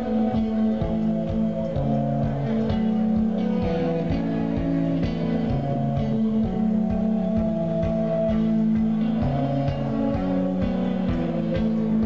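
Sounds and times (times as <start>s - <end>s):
live post-rock band: 0.0s - 12.0s.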